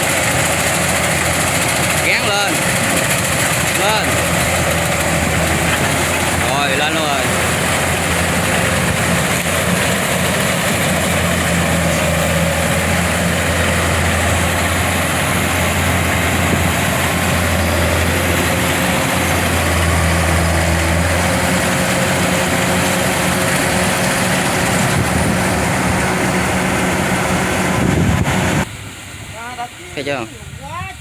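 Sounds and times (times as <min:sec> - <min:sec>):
diesel engine running: 0:00.0 - 0:28.7.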